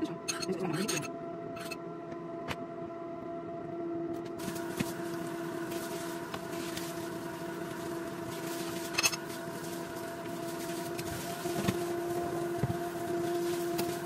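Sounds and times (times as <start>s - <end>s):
air fryer fan humming: 0.0s - 14.0s.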